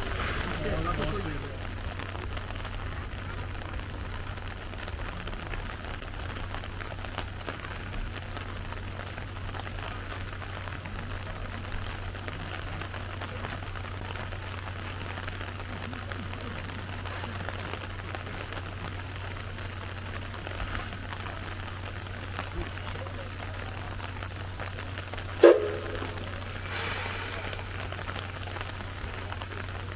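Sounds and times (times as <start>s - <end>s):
constant low hum: 0.0s - 29.9s
rain pattering: 0.0s - 29.9s.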